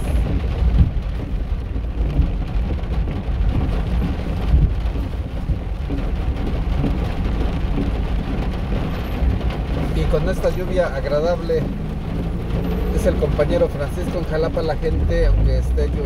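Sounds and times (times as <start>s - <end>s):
steady rain: 0.0s - 16.0s
traffic rumble: 0.0s - 16.0s.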